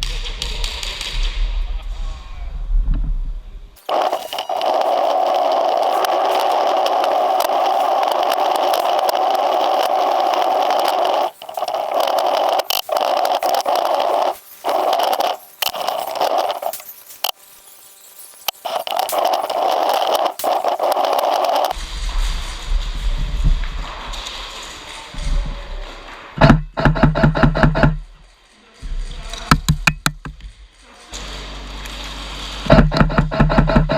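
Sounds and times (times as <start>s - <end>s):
scraping rattling mechanical noise: 3.7s - 33.9s.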